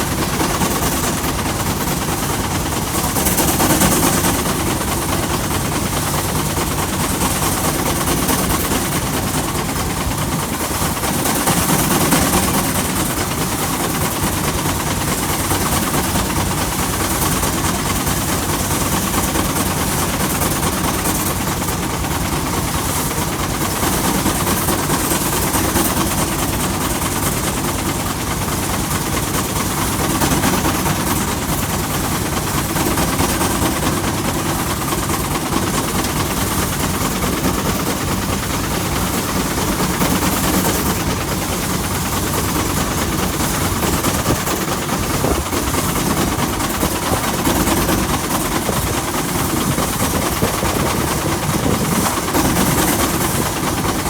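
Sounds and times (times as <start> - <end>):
threshing machine clattering: 0.0 - 54.0
tractor engine running: 0.0 - 54.0.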